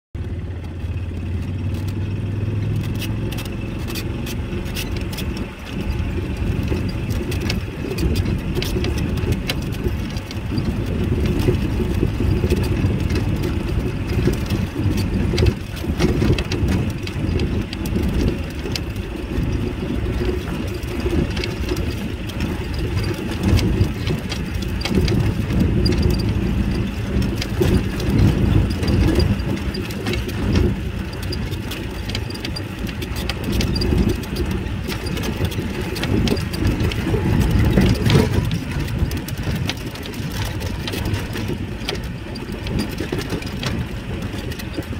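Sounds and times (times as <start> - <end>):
vehicle engine and road rumble: 0.1 - 44.9
light rattles: 2.8 - 44.9.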